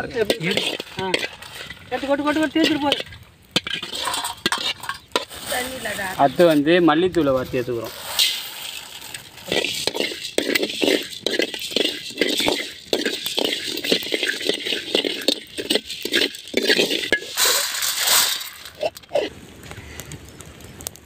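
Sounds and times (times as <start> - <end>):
ladle scraping seeds in metal pan: 0.0 - 19.3
seeds rattling against pan: 0.0 - 19.3.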